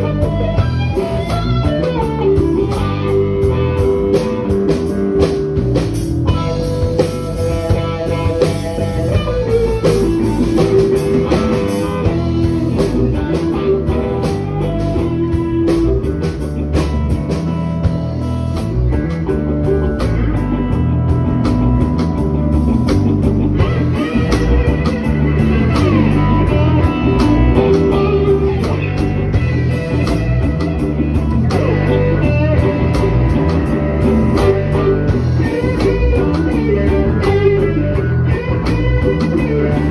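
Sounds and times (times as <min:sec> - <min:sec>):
electric blues band: 0:00.0 - 0:39.9
lead electric guitar: 0:00.0 - 0:39.9.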